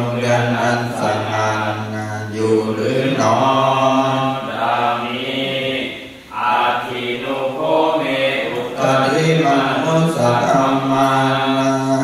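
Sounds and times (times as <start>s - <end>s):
voices chanting together: 0.0s - 12.0s.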